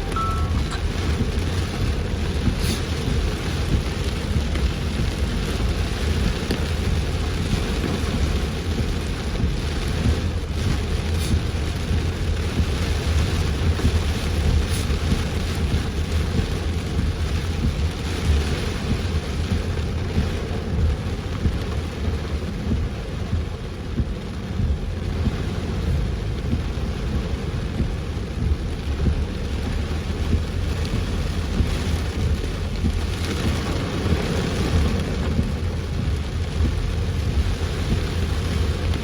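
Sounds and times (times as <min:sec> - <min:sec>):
constant low rumble: 0:00.0 - 0:39.0
heavy rain on a car: 0:00.0 - 0:39.0.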